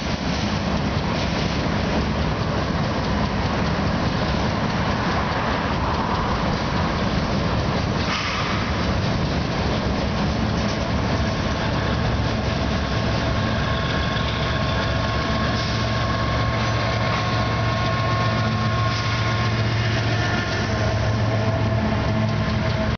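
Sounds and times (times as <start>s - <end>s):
diesel locomotive engine drone: 0.0s - 22.9s
train wheels rumbling on rails: 0.0s - 22.9s.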